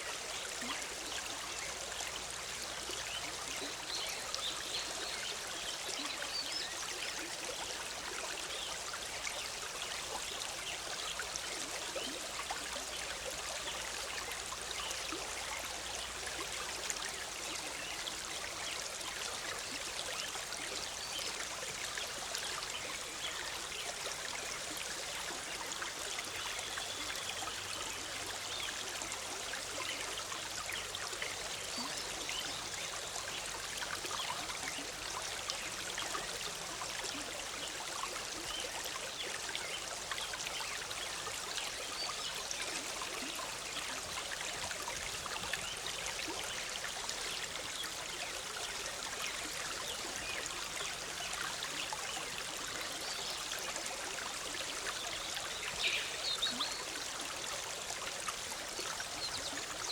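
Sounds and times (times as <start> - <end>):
stream bubbling over rocks: 0.0 - 59.9.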